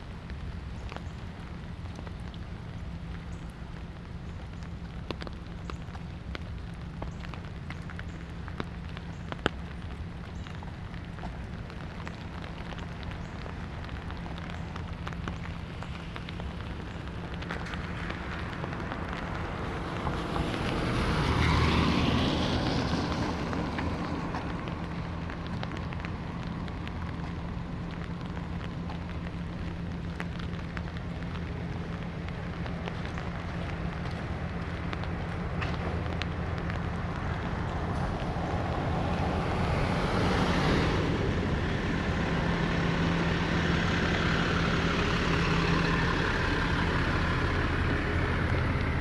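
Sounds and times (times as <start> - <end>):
light rain: 0.0 - 49.0
vehicle passing on wet road: 0.0 - 49.0.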